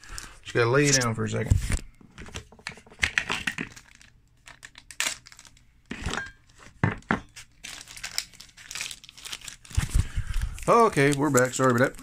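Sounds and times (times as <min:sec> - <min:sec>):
packaging rustling and crinkling: 0:00.0 - 0:05.6, 0:07.4 - 0:12.0.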